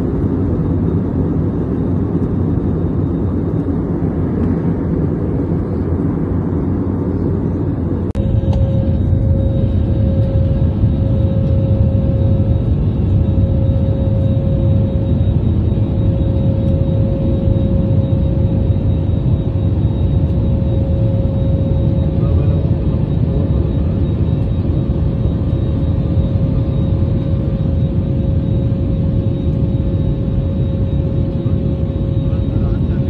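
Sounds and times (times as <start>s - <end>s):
constant mid-pitched hum: 0.0s - 33.0s
jet engine and airflow rumble: 0.0s - 33.0s.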